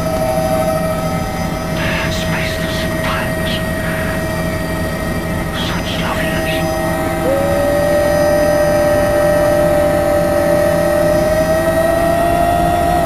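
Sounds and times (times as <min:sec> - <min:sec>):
helicopter turbine and rotor noise: 0:00.0 - 0:13.0
turbine whine: 0:00.0 - 0:13.0.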